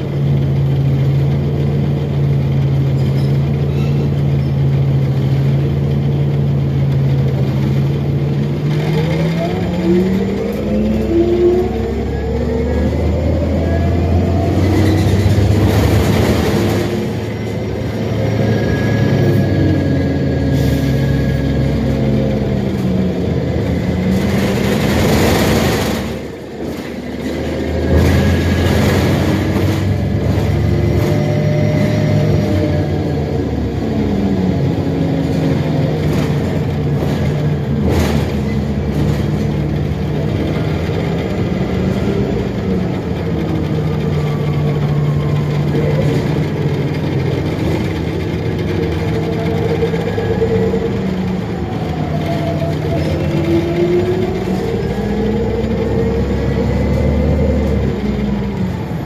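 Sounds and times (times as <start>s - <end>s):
bus drivetrain humming: 0.0s - 59.0s
road noise and rattles: 0.0s - 59.0s.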